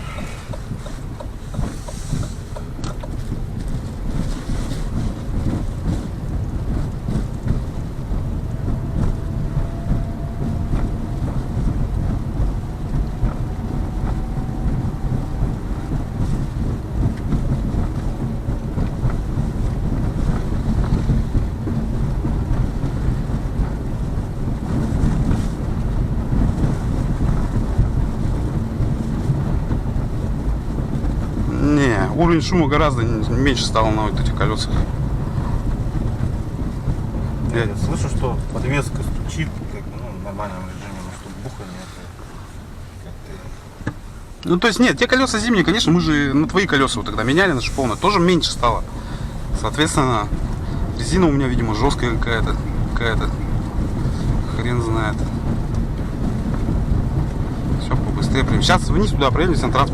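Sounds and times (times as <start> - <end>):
faint whine: 0.0 - 2.9, 3.6 - 59.9
suspension knocks: 0.0 - 59.9
tyre and road rumble: 0.0 - 59.9.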